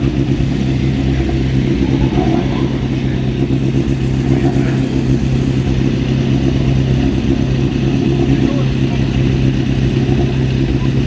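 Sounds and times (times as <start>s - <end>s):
car engine revving steadily: 0.0s - 11.0s.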